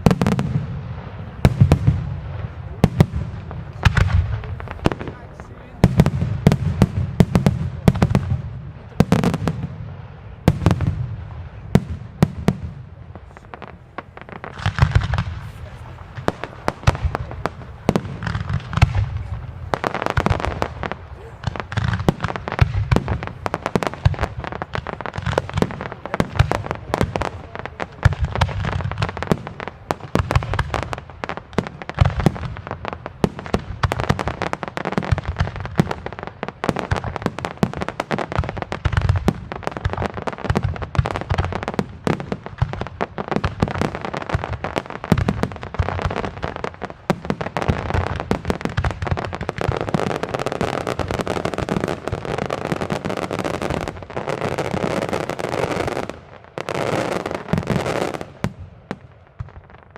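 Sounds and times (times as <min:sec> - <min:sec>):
fireworks bangs and booms: 0:00.0 - 0:59.9.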